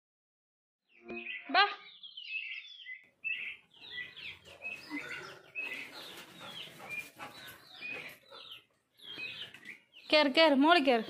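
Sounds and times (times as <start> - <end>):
small birds chirping: 0.9 - 11.0.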